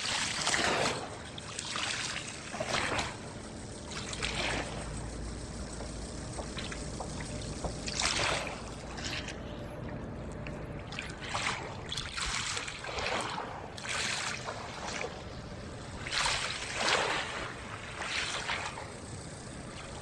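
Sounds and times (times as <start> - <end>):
water splashing: 0.0 - 19.0
low steady rumble: 0.0 - 20.0.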